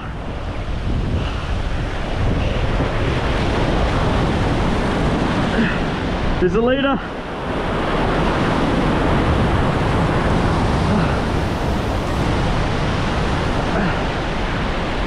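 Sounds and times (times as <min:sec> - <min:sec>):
ocean surf rushing: 0:00.0 - 0:15.0
wind: 0:00.0 - 0:15.0.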